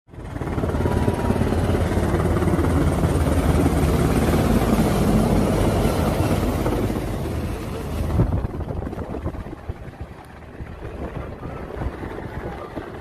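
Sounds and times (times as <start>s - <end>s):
helicopter engine and air rush: 0.1s - 13.0s
helicopter rotor beat: 0.1s - 13.0s.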